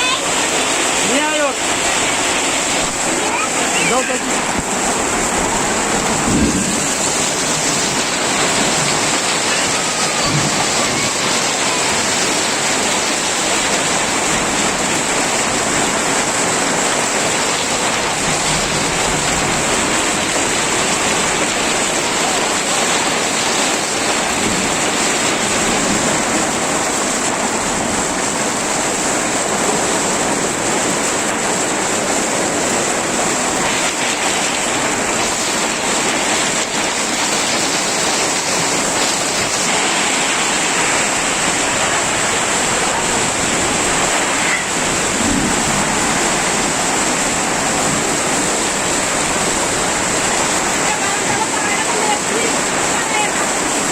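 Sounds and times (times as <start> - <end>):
heavy rain downpour: 0.0 - 53.9.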